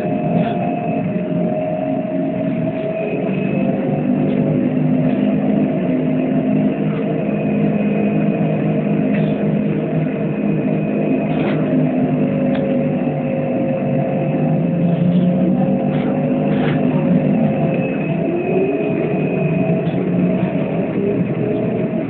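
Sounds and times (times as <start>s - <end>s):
thin high whine: 0.0s - 22.0s
trolleybus hum: 0.0s - 22.0s.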